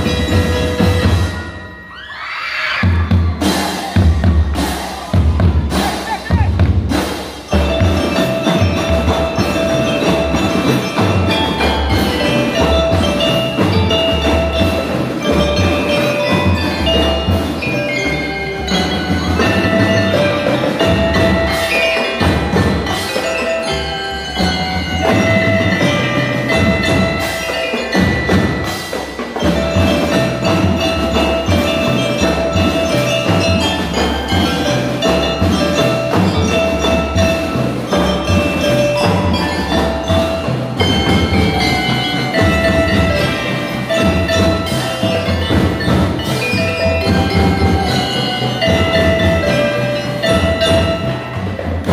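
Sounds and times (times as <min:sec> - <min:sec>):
mallet keyboards melody: 0:00.0 - 0:03.5, 0:05.3 - 0:51.9
snare and bass drums: 0:02.8 - 0:51.9.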